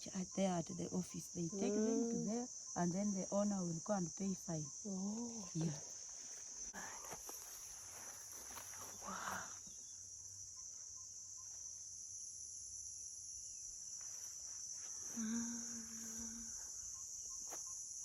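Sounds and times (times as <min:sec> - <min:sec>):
shrill insect chorus: 0:00.0 - 0:18.0.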